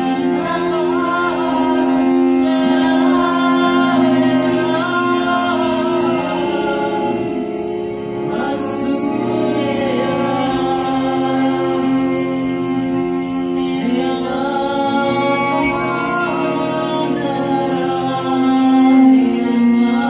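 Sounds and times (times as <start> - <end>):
bells jingling: 0.0 - 20.0
cello and sitar drone: 0.0 - 20.0
women singing a mantra: 0.0 - 20.0.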